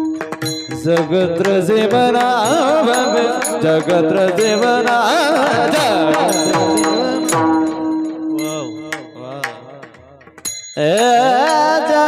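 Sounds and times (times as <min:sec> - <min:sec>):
high voice singing devotional song: 0:00.0 - 0:09.9, 0:10.8 - 0:12.0
drum strokes: 0:00.0 - 0:11.6.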